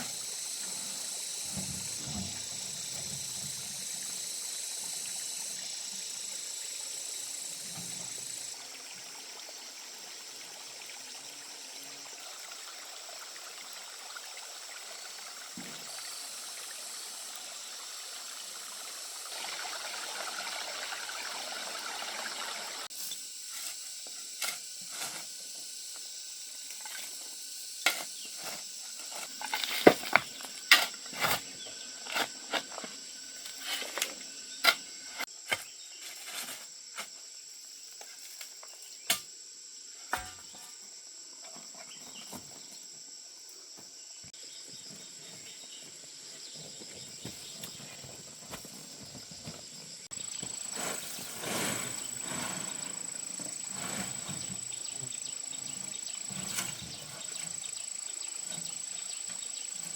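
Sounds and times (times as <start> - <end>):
high-pitched insect drone: 0.0 - 14.0, 14.6 - 44.8, 49.0 - 59.9.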